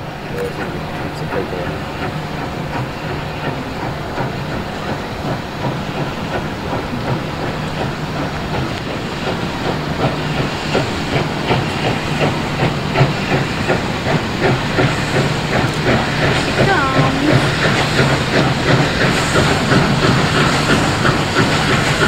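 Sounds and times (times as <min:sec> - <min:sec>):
steam hissing: 0:00.0 - 0:22.0
steam locomotive exhaust beat: 0:00.0 - 0:22.0.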